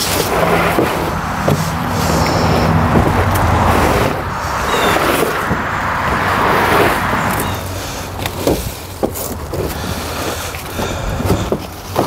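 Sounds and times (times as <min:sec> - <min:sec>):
car passing: 0:00.0 - 0:11.6.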